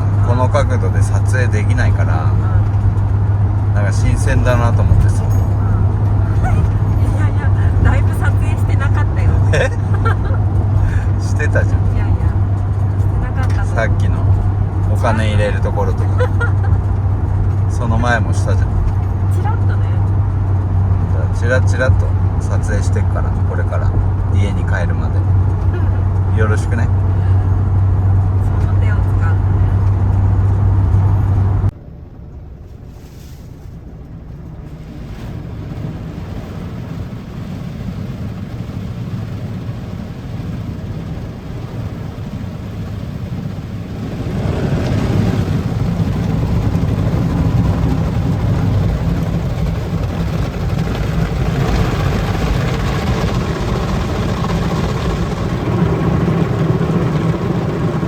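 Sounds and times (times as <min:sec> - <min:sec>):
van engine and road noise: 0:00.0 - 0:58.0.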